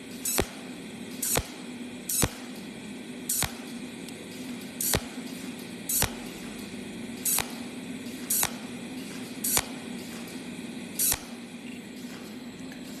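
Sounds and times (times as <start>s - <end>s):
machine low hum: 0.0s - 13.0s
welding pulse hissing bursts: 0.0s - 13.0s.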